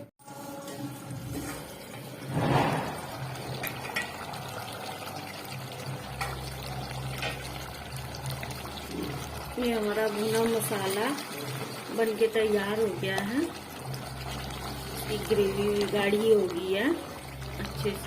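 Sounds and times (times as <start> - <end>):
thick gravy bubbling and popping: 1.3 - 18.0.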